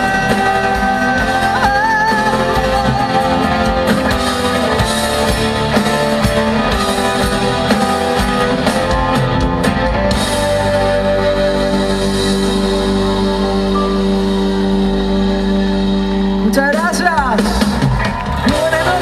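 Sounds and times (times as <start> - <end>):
live band with guitars: 0.0 - 19.0.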